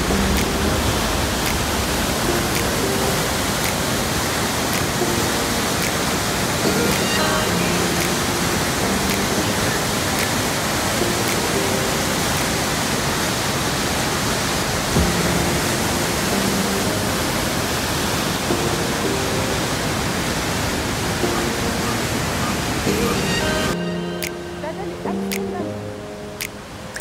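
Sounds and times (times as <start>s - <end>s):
rapids rushing over rocks: 0.0s - 24.4s.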